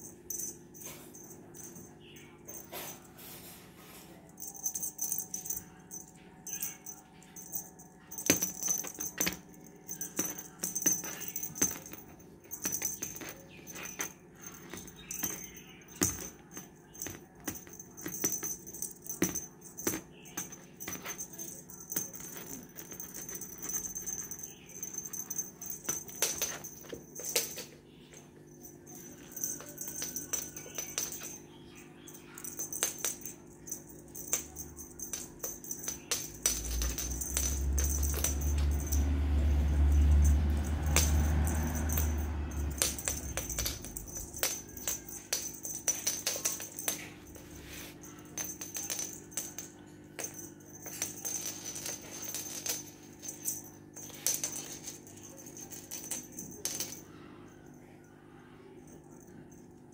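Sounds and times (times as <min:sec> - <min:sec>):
cat toy rattling and jingling: 0:00.0 - 0:58.0.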